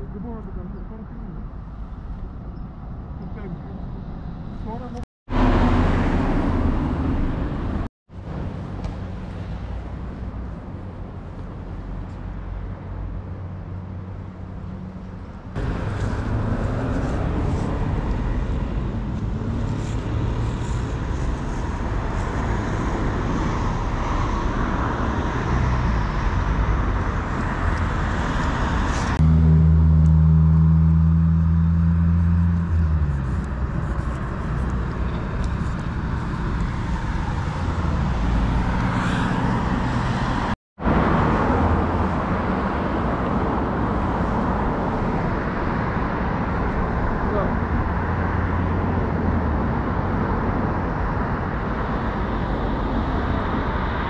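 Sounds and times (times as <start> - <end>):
street traffic: 0.0 - 54.0
vehicle engine humming: 0.0 - 54.0.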